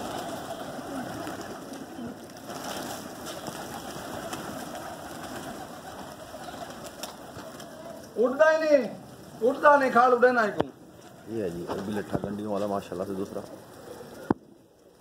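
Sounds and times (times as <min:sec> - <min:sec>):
pigeons cooing: 0:00.0 - 0:08.2, 0:10.8 - 0:15.0
wings fluttering: 0:00.0 - 0:15.0.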